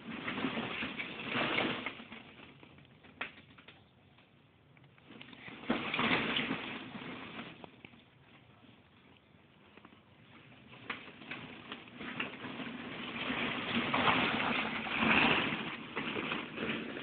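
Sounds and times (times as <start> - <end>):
plastic balls clattering: 0.0 - 4.0, 4.8 - 8.5, 9.6 - 17.0.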